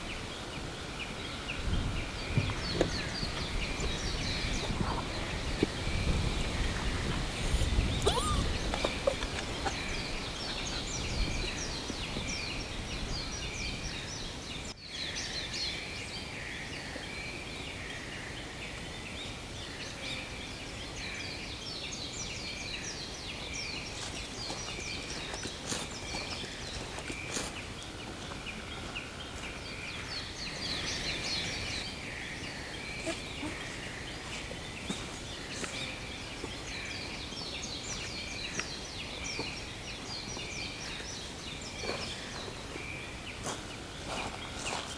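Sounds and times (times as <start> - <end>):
songbirds chirping and trilling: 0.0 - 44.9
steady outdoor hiss: 0.0 - 44.9.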